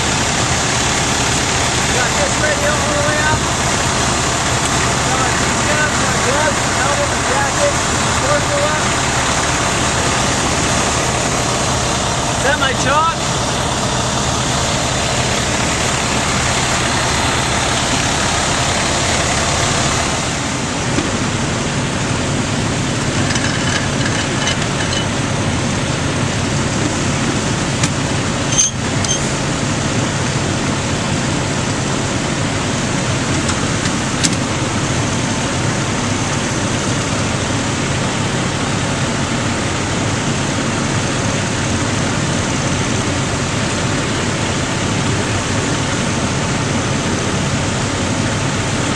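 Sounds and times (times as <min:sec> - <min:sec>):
fire engine running: 0:00.0 - 0:48.9.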